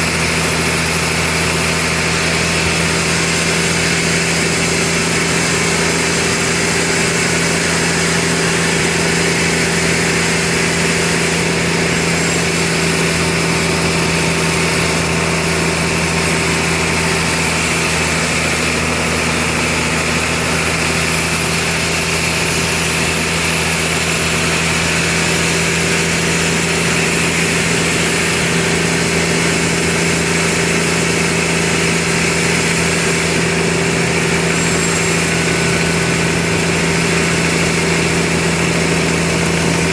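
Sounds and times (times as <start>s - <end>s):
loud even machine noise: 0.0s - 39.9s
sawmill machinery humming: 0.0s - 39.9s.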